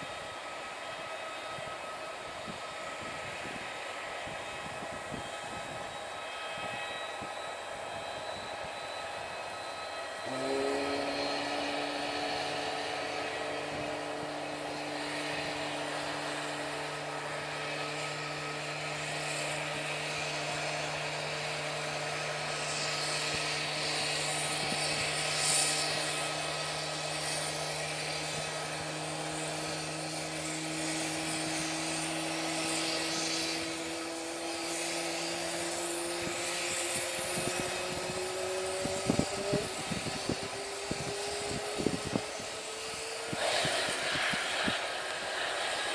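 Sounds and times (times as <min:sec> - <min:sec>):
aircraft engines whining: 0:00.0 - 0:45.9
lower hum: 0:07.9 - 0:45.9.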